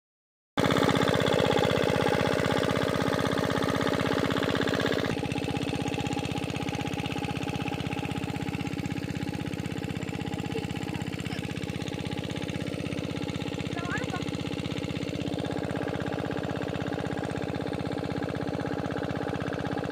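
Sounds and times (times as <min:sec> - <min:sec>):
diesel water pump chugging: 0:00.6 - 0:19.9.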